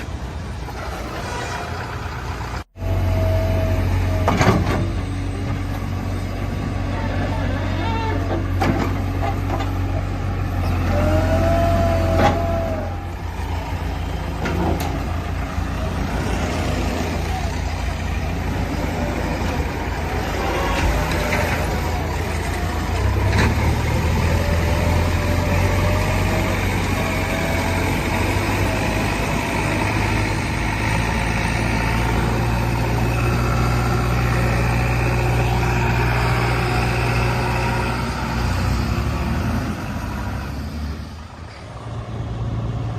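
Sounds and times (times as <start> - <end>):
heavy machinery diesel engine running: 0.4 - 41.4.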